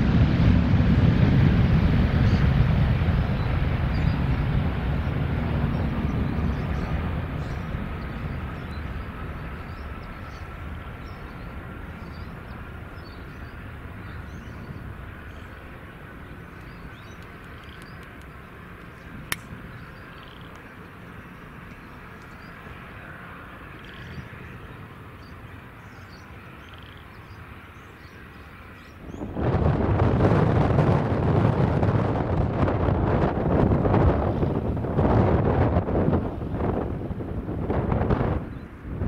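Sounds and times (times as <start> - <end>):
distant jet engines rumbling: 0.0 - 39.0.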